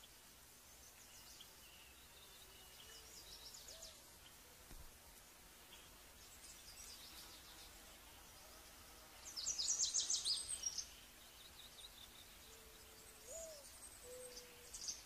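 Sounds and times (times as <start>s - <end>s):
faint bird chirps: 0.0s - 4.8s, 5.6s - 15.0s.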